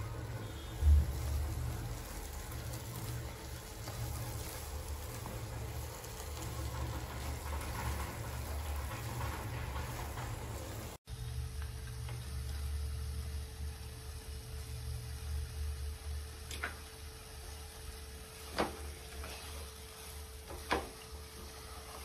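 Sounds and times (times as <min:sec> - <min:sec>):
food bubbling in a pan: 0:00.0 - 0:22.0.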